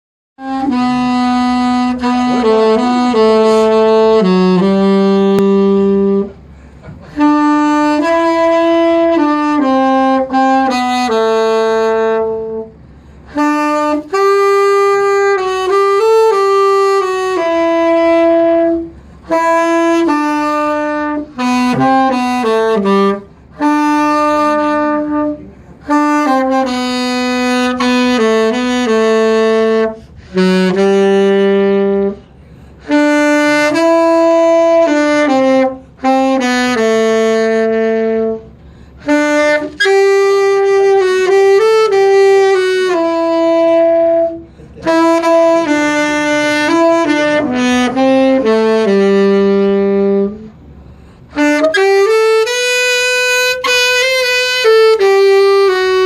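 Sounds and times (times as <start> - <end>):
solo tenor saxophone melody: 0.4 - 56.0.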